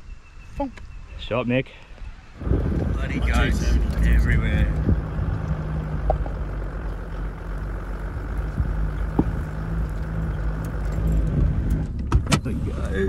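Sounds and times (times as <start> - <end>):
tyre and road noise: 0.6 - 13.0
car engine running: 2.4 - 13.0.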